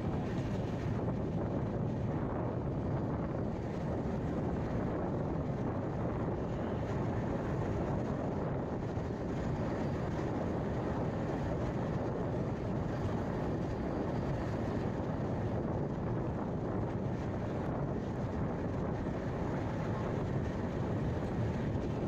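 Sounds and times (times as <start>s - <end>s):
train rumbling and rushing: 0.0s - 22.0s.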